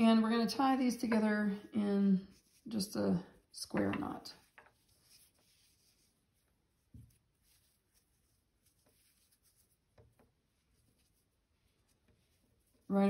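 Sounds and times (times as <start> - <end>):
hands handling yarn: 2.3 - 13.0.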